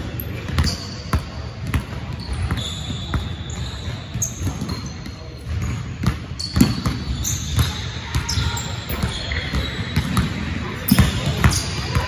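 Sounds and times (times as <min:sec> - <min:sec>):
sneaker squeaks: 0:00.2 - 0:12.0.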